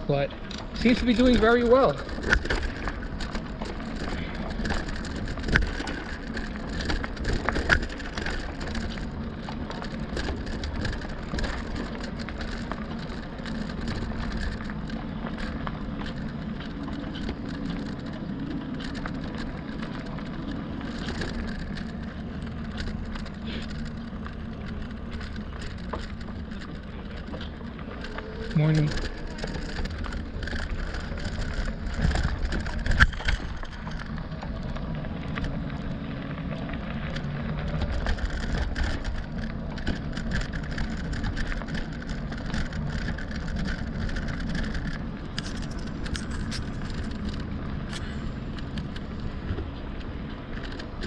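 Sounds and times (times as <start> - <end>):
bike tires crunching over gravel: 0.0 - 51.0.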